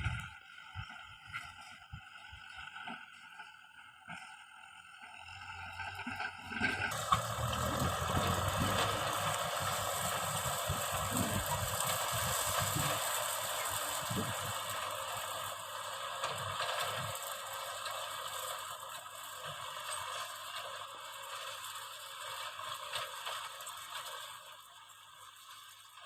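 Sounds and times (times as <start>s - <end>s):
tractor diesel engine rattling: 0.0s - 26.0s.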